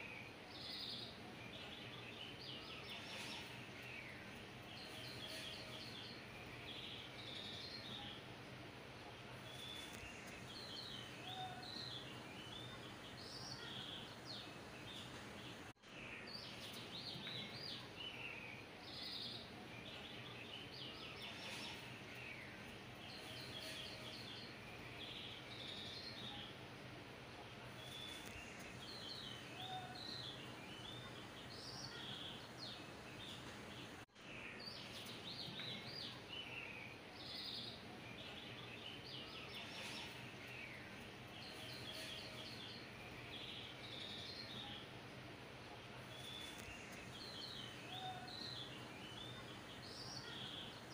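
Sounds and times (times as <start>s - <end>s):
birds chirping: 0.0s - 50.9s
steady background hiss: 0.0s - 50.9s.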